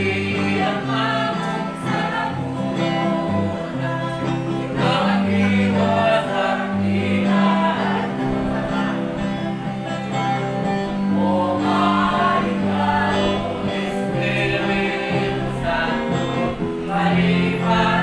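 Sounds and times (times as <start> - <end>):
choir singing gospel song: 0.0 - 18.0
instrumental backing with bass line: 0.0 - 18.0.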